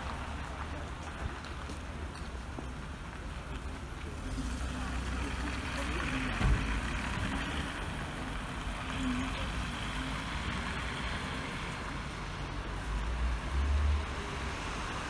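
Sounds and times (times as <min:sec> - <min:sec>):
city street traffic: 0:00.0 - 0:15.0
tyres hissing on wet road: 0:00.0 - 0:15.0.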